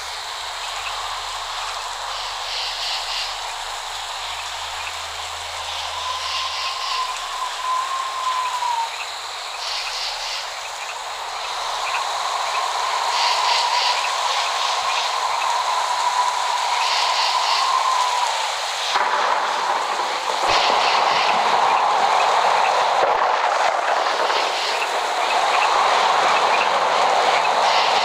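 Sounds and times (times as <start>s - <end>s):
steady rain hissing: 0.0s - 28.0s.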